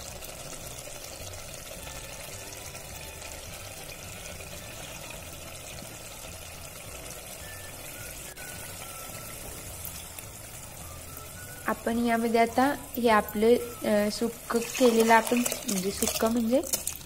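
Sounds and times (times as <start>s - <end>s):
spice paste sizzling in oil: 0.0s - 17.0s.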